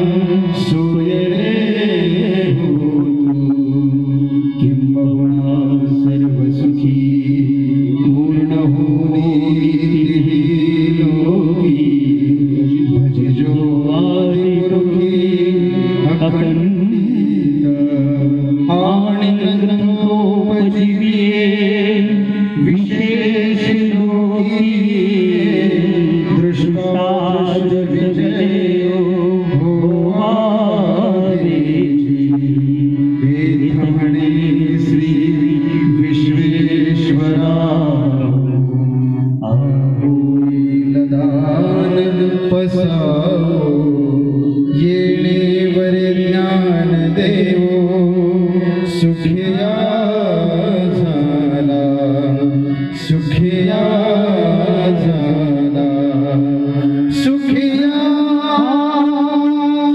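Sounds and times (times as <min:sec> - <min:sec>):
harmonium: 0:00.0 - 0:59.9
man singing long held notes: 0:00.0 - 0:59.9.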